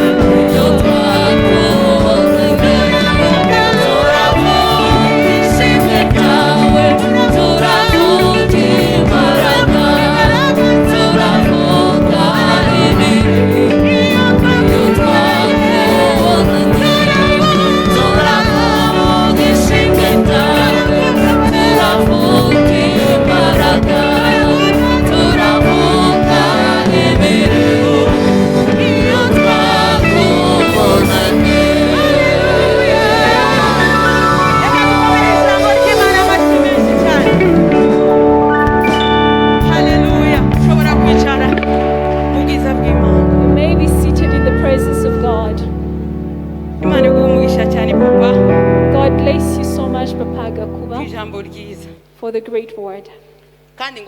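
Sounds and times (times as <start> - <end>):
group singing gospel song: 0.0 - 44.4.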